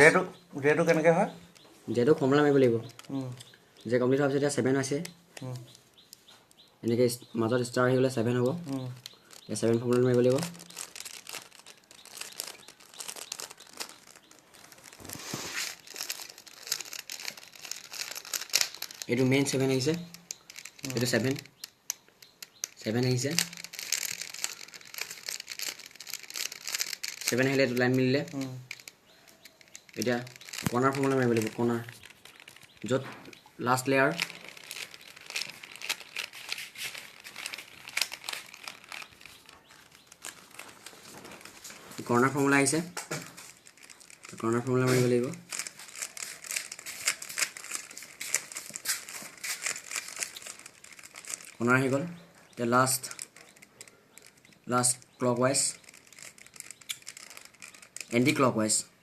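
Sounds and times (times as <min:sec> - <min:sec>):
puzzle cube clicking as twisted: 0:08.3 - 0:58.6.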